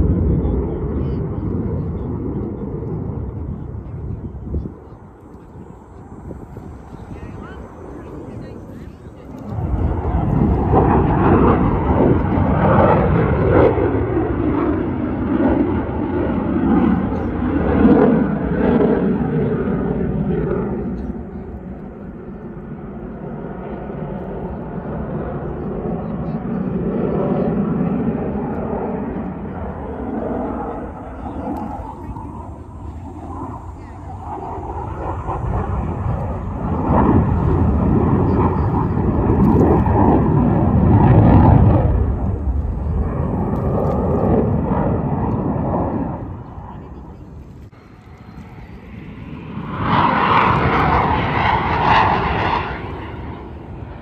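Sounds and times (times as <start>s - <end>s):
aircraft engine rumble: 0.0s - 54.0s
airplane flying overhead: 0.0s - 54.0s.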